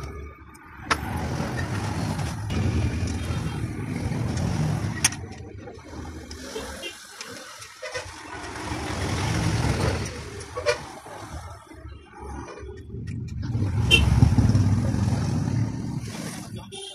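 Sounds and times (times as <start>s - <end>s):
traffic rumble: 0.0s - 16.9s.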